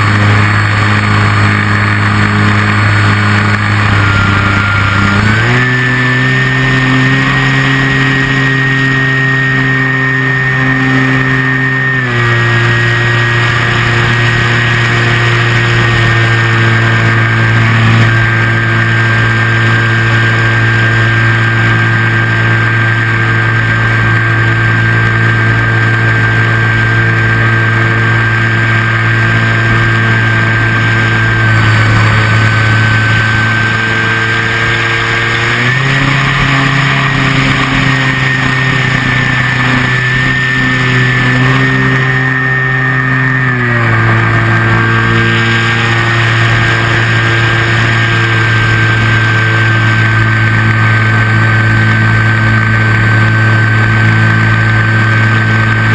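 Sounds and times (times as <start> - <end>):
model plane motor whining: 0.0 - 55.9.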